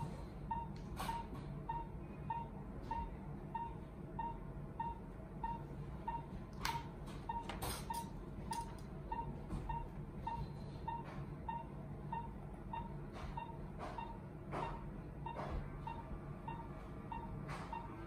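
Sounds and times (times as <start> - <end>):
pulse oximeter beeping: 0.0 - 18.0.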